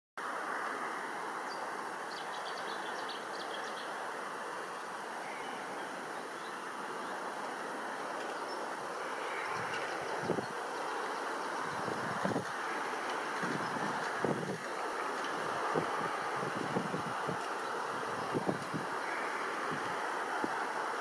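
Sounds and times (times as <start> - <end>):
rushing hiss: 0.3 - 21.0.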